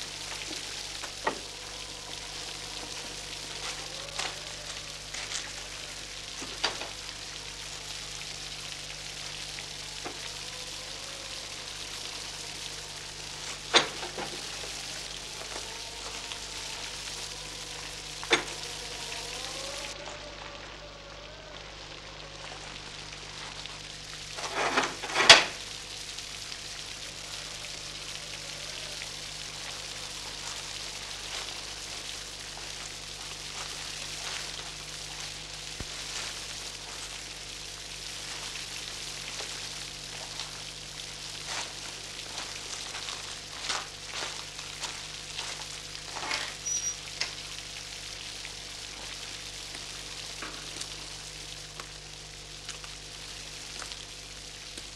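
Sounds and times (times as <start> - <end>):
film soundtrack hiss and crackle: 0.0 - 54.9.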